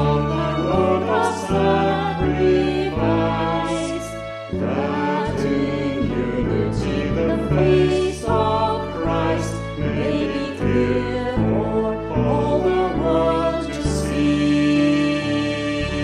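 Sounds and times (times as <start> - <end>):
voices singing a hymn: 0.0 - 16.0.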